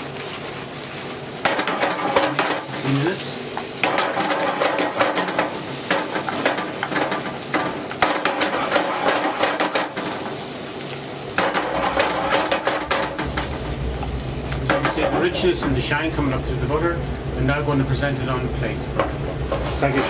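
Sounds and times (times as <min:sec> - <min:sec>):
sauce bubbling and sizzling in pan: 0:00.0 - 0:20.0.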